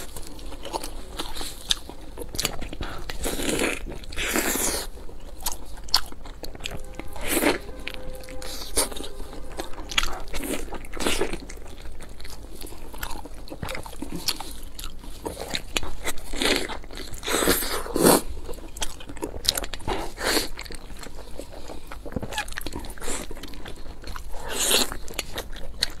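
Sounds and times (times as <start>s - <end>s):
crunching and chewing: 0.0s - 26.0s.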